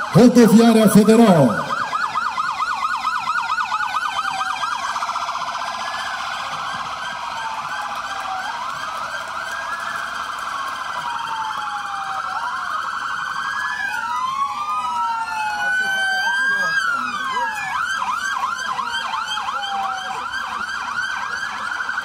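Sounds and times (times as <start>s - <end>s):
police sirens yelping and wailing: 0.0s - 22.0s.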